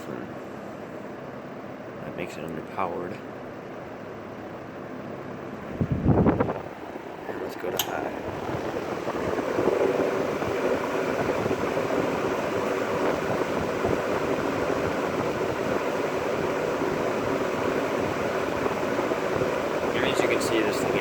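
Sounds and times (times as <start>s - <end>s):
box fan roaring: 0.0s - 21.0s.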